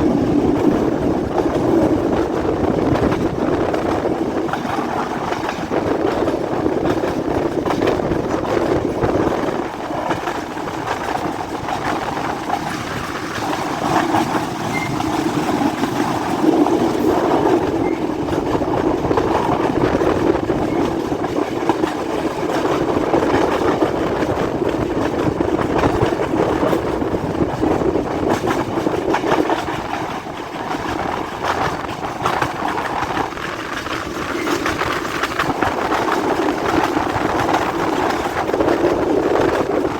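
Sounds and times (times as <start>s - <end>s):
train carriages rumbling and rattling: 0.0s - 39.9s
wheels clicking on rails: 0.0s - 39.9s.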